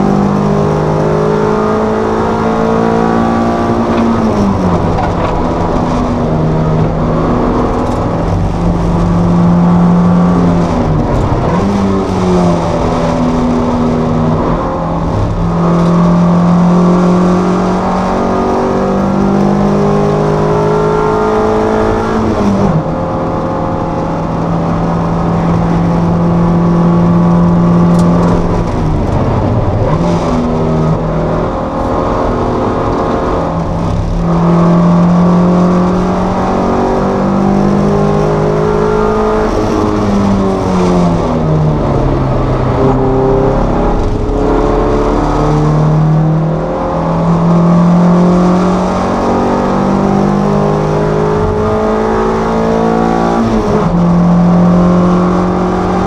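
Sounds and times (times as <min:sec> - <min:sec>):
race car engine under load: 0:00.0 - 0:56.0.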